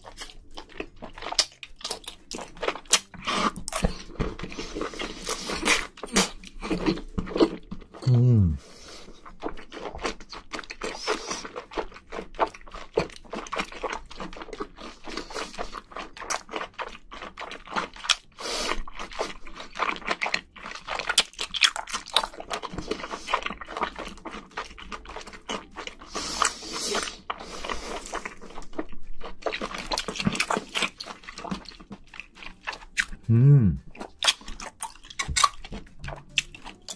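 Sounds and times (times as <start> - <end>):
wet chewing mouth sounds: 0.0 - 36.9.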